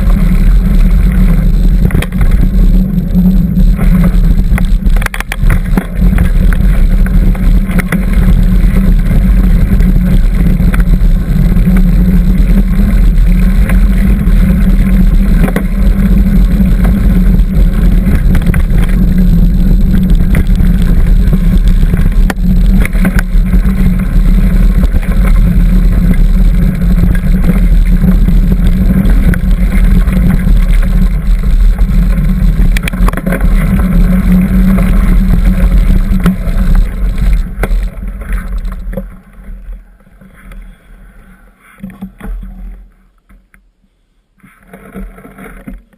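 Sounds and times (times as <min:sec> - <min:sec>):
wind buffeting microphone: 0:00.0 - 0:39.0
bicycle clicks and rattles: 0:00.0 - 0:39.7.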